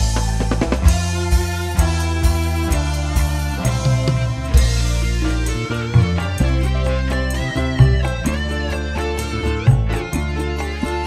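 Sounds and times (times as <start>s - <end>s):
deep bass notes: 0.0s - 11.0s
loud music through pa system: 0.0s - 11.0s
wavering high melody: 0.0s - 11.0s.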